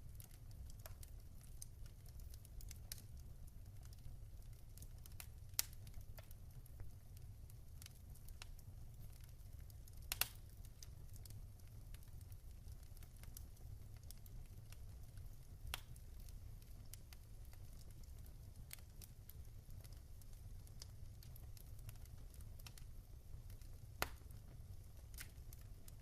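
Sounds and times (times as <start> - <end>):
wood fire crackling: 0.0 - 26.0
fire pops: 4.8 - 26.0.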